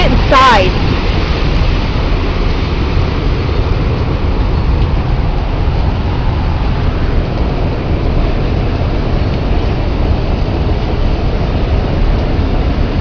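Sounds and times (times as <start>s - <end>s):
roar of tornado winds: 0.0s - 13.0s.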